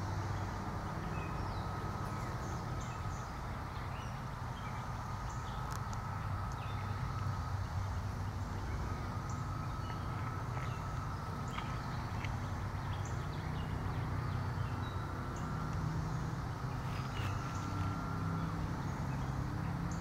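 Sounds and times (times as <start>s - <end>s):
faint high hum: 0.0s - 20.0s.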